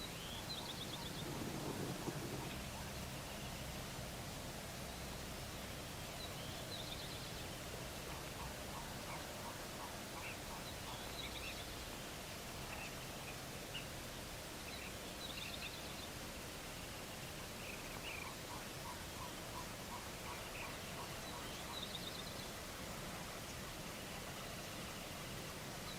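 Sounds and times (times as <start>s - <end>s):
outdoor hiss: 0.0s - 25.9s.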